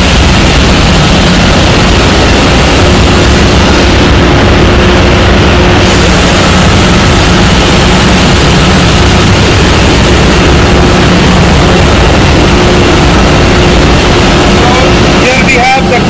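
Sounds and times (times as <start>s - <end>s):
engine room machinery drone: 0.0s - 16.0s.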